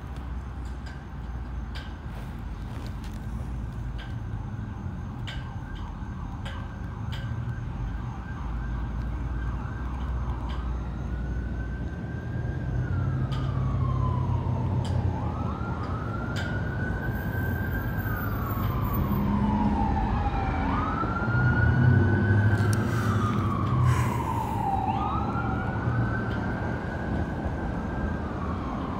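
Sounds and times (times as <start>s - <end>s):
low traffic rumble: 0.0s - 28.9s
siren wailing: 4.9s - 28.9s.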